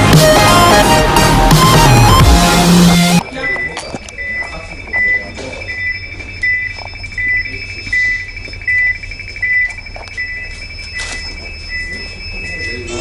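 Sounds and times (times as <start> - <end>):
alarm beeping: 0.0 - 13.0
steady high tone: 0.0 - 13.0.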